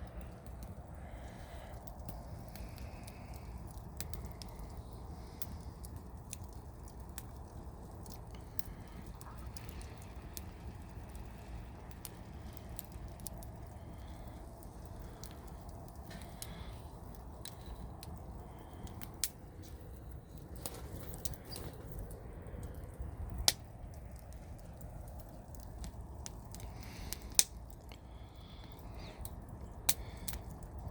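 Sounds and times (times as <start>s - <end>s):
campfire crackling and popping: 0.0s - 30.9s
low rush of fire: 0.0s - 30.9s.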